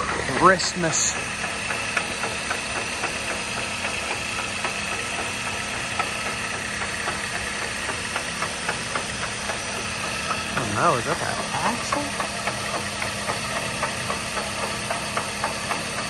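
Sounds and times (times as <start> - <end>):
car engine idling: 0.0 - 16.0
irregular click-clack: 0.0 - 16.0.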